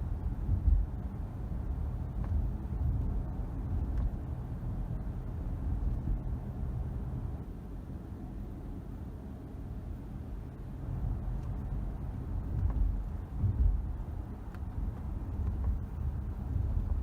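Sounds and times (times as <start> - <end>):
road and cabin rumble: 0.0 - 17.0.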